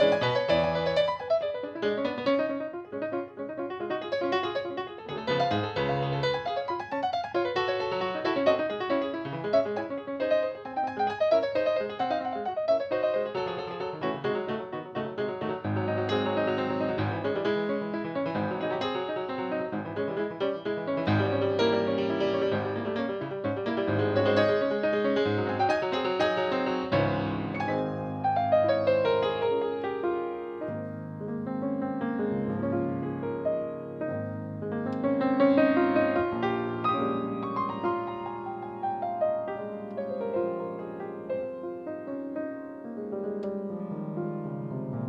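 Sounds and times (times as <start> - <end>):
solo piano music: 0.0 - 45.0.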